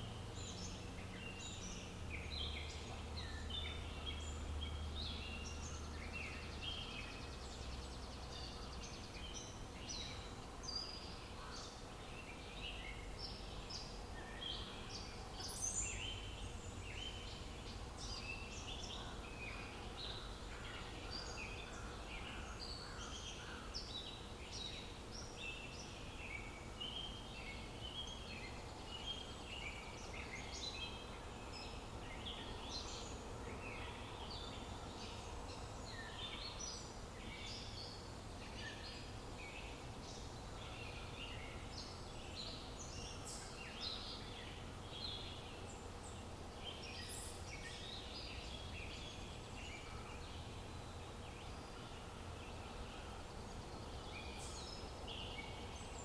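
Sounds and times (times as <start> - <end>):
faint low outdoor hum: 0.0 - 56.0.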